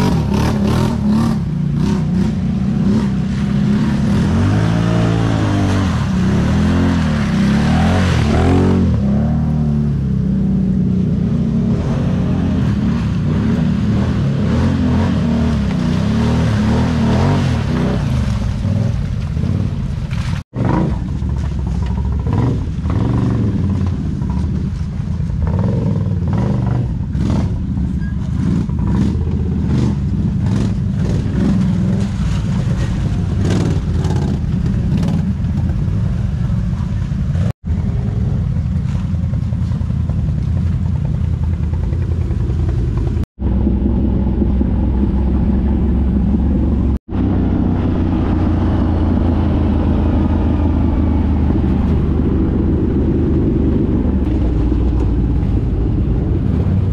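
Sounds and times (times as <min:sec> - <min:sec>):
atv engine revving: 0:00.0 - 0:19.7, 0:20.6 - 0:24.8, 0:25.4 - 0:35.6, 0:40.4 - 0:56.9.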